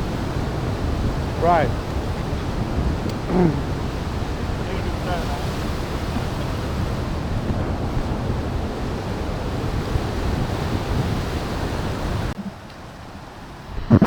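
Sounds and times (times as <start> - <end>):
waterfall rushing: 0.0 - 12.4
wind buffeting microphone: 0.0 - 14.0.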